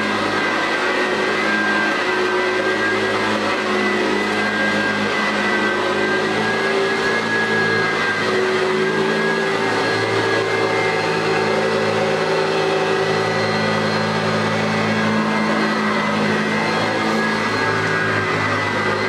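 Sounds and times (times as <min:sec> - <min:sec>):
vacuum cleaner running on carpet: 0:00.0 - 0:19.0.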